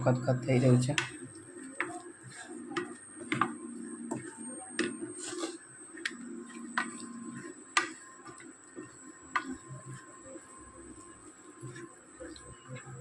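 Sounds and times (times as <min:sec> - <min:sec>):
spatula stirring mixture in pan: 0:00.0 - 0:13.0.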